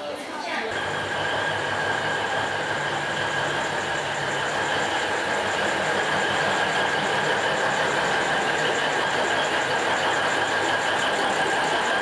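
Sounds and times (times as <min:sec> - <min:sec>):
train carriage rumbling: 0:00.7 - 0:11.9
high-pitched whine: 0:00.7 - 0:12.0.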